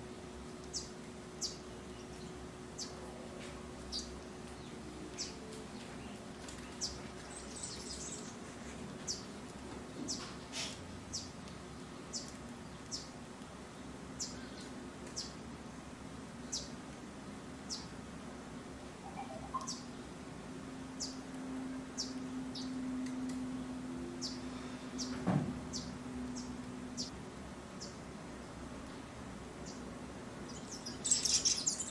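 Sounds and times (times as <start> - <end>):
low steady hum: 0.0 - 31.9
small birds chirping: 0.6 - 3.1, 3.8 - 15.5, 16.3 - 16.8, 17.6 - 18.0, 19.0 - 20.2, 20.9 - 23.4, 24.2 - 31.9.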